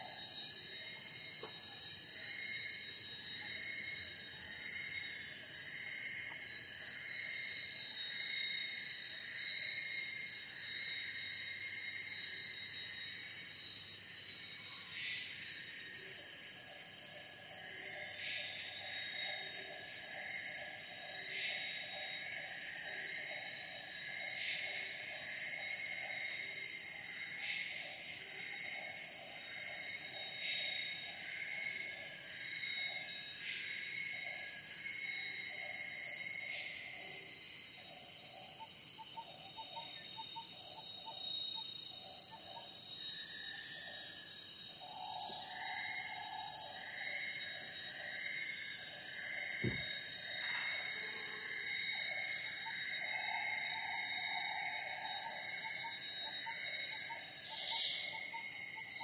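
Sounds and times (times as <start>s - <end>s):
high-pitched insect drone: 0.0s - 59.0s
pulsing insect call: 0.0s - 59.0s.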